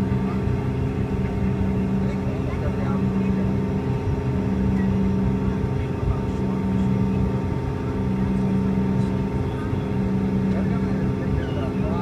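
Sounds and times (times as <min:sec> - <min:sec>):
jet engines humming: 0:00.0 - 0:12.0
low rumble of airflow: 0:00.0 - 0:12.0.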